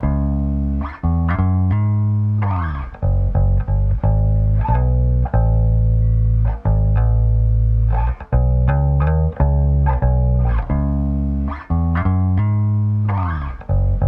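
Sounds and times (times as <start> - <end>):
deep bass line: 0.0 - 14.0.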